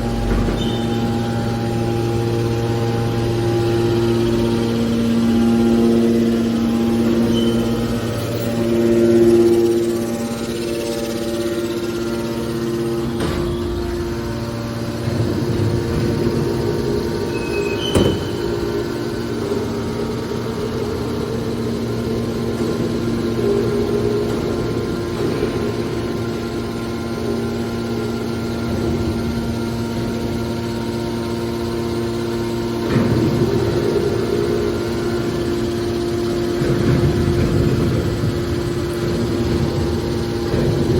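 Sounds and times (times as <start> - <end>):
hydraulic baler droning: 0.0 - 40.9.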